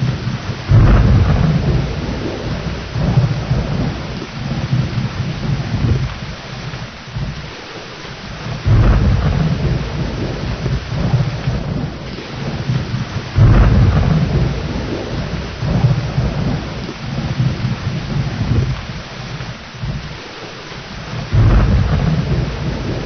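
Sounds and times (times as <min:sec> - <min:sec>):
rolling thunder: 0:00.0 - 0:23.0
steady rain: 0:00.0 - 0:23.0.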